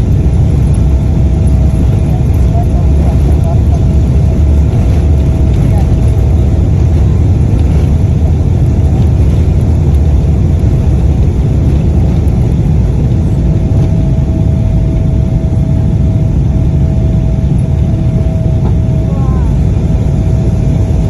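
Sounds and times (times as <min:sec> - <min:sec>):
jet engines at takeoff: 0:00.0 - 0:21.0.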